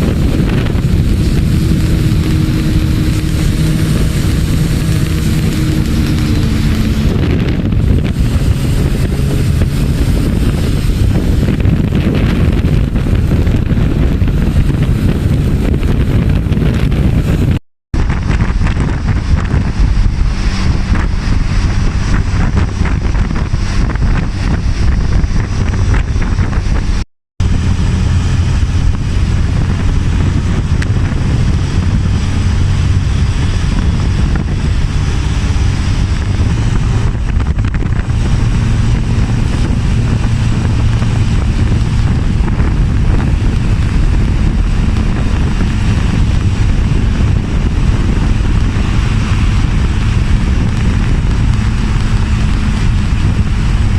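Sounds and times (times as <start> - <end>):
motorbike engine running: 0.0 - 53.9
wind buffeting microphone: 0.0 - 53.9.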